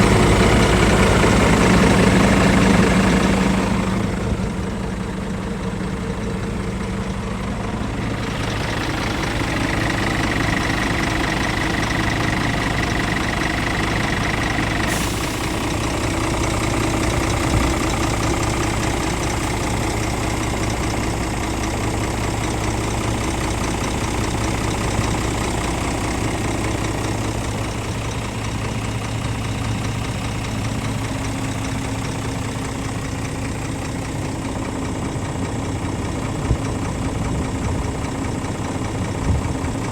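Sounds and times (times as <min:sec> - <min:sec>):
diesel truck idling: 0:00.0 - 0:39.9.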